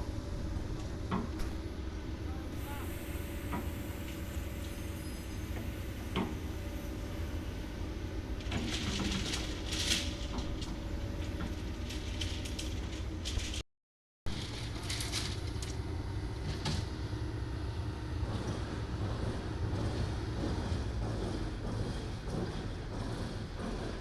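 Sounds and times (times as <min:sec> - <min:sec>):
excavator engines running: 0:00.0 - 0:13.6, 0:14.3 - 0:24.0.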